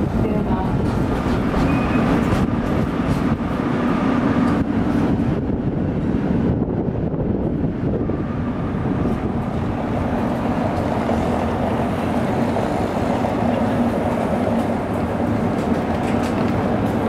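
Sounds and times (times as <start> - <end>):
tram rumbling past: 0.0 - 17.0.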